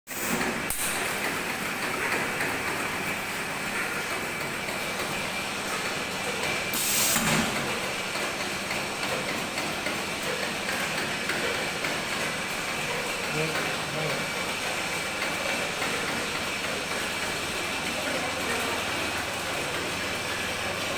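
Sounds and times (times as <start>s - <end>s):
packaging machinery running: 0.2s - 20.9s.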